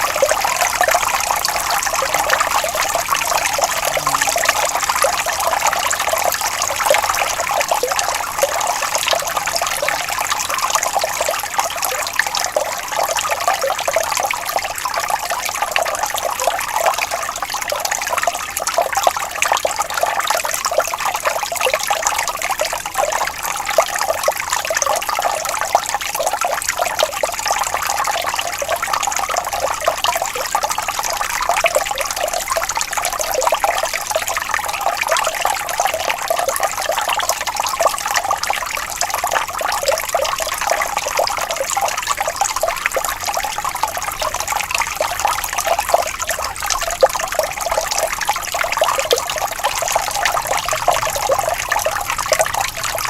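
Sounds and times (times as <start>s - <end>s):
water flowing and trickling: 0.0s - 53.0s.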